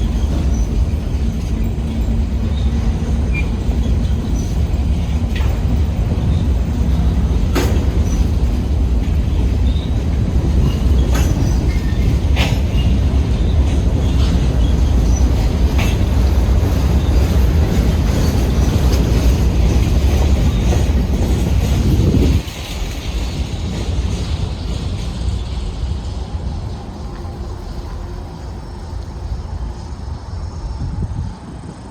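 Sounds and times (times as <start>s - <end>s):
steel wheels rumbling on rail: 0.0s - 31.9s
train cars clanking: 0.0s - 31.9s.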